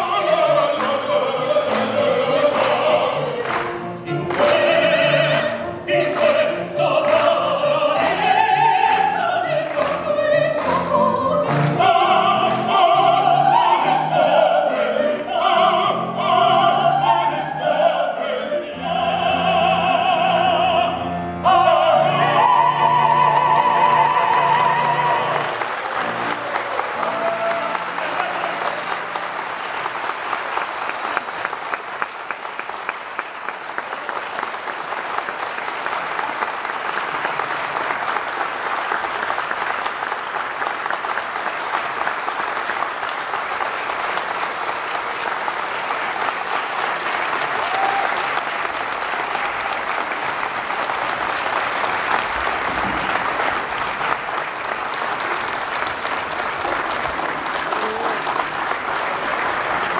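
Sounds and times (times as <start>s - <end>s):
audience applauding: 0.0s - 17.9s, 21.4s - 59.9s.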